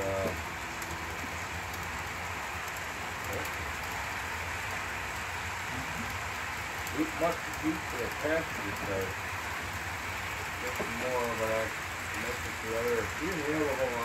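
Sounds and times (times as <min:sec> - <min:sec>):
model train wheels rattling on rails: 0:00.0 - 0:14.0.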